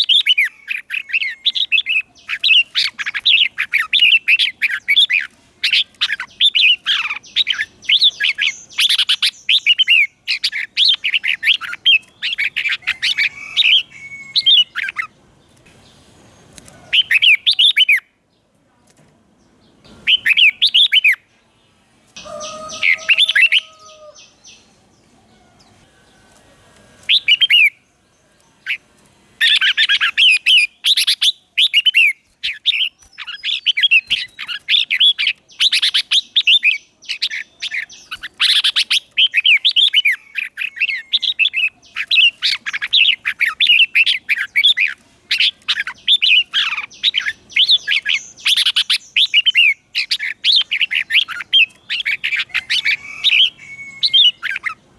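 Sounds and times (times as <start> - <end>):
bird singing warbled phrases: 0.0 - 18.5, 19.4 - 26.2, 27.0 - 54.9.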